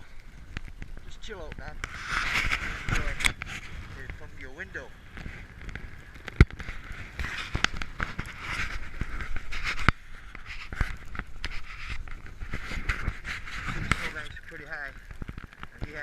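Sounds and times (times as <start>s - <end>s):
footsteps crunching in snow: 1.0s - 14.9s.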